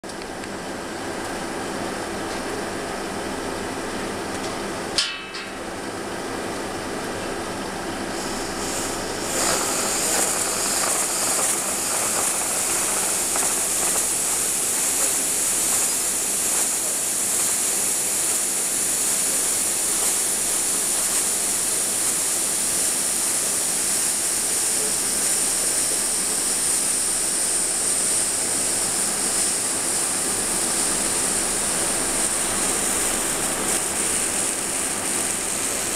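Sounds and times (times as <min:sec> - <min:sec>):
liquid nitrogen hissing: 0:06.8 - 0:35.9.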